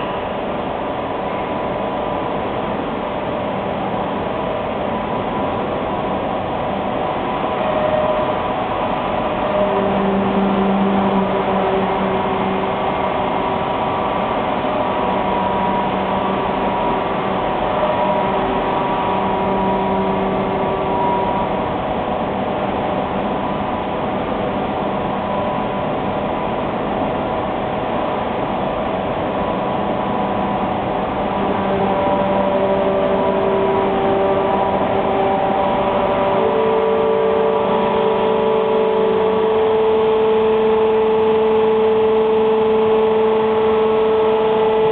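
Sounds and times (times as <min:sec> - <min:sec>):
steady mechanical hum: 0:00.0 - 0:44.9
whining motor tones: 0:04.1 - 0:44.9.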